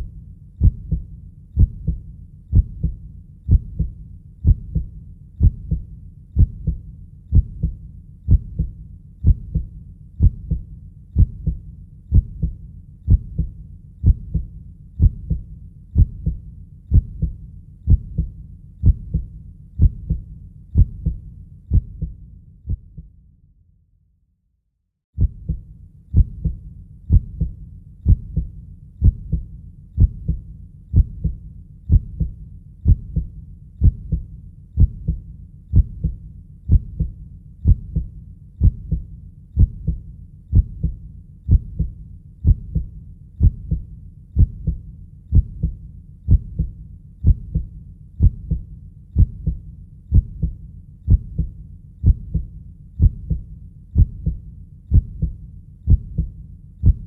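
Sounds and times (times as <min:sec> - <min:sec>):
slow heartbeat: 0:00.0 - 0:23.1, 0:25.2 - 0:57.0.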